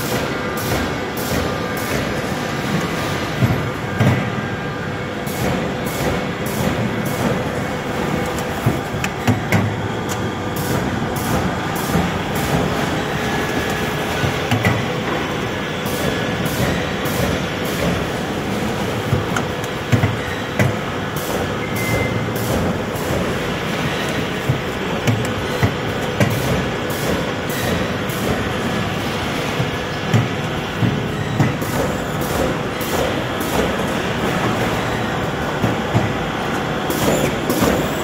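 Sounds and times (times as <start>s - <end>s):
machine running with sharp clacks: 0.0s - 38.0s.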